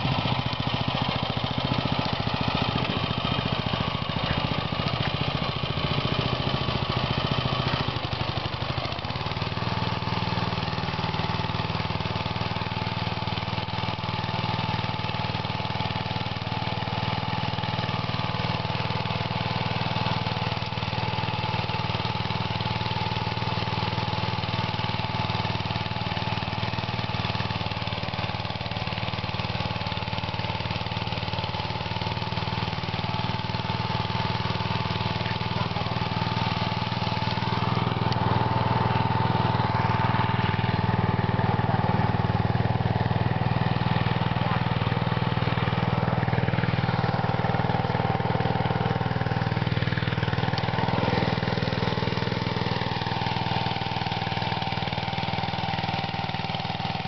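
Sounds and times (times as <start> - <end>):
tiller engine running: 0.0 - 57.0.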